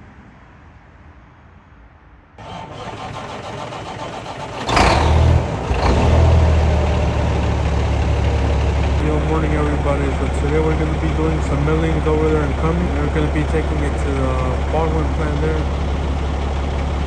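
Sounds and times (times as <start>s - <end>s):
diesel engine cranking: 2.4s - 17.0s
diesel engine idling: 2.4s - 17.0s
engine starting with loud burst: 2.4s - 17.0s.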